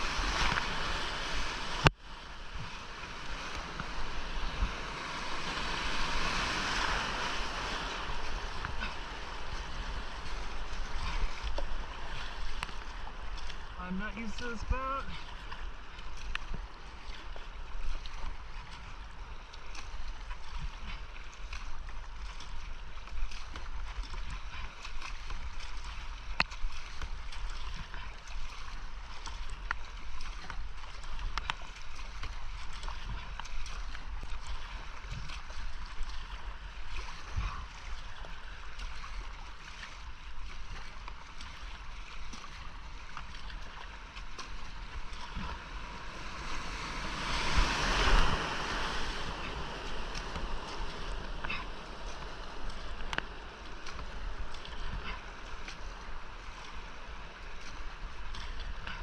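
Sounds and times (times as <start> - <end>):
creek rapids rushing: 0.0 - 33.4, 34.0 - 59.0
paddle splashes and hull knocks: 0.0 - 59.0.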